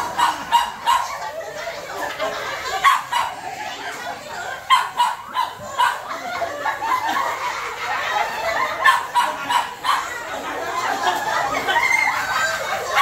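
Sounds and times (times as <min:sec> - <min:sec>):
children and adults laughing: 0:00.0 - 0:13.0.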